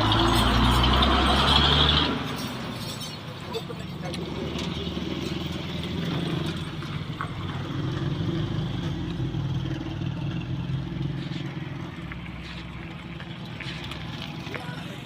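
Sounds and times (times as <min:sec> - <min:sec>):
engine running steadily: 0:02.6 - 0:15.0.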